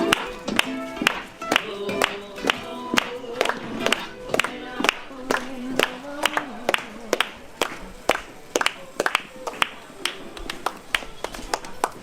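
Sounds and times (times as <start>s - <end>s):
faint murmuring voices: 0.0s - 12.0s
scattered clapping: 0.0s - 12.0s.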